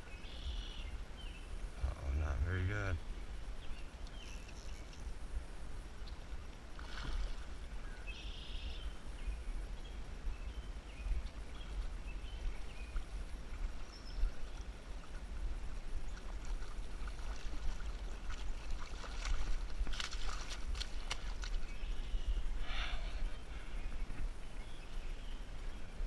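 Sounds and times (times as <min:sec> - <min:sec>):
river water running: 0:00.0 - 0:26.0
wind rumbling on microphone: 0:00.0 - 0:26.0.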